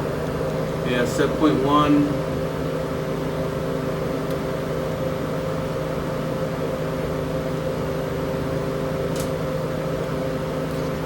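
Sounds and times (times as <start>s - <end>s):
refrigeration motor hum: 0.0s - 11.0s.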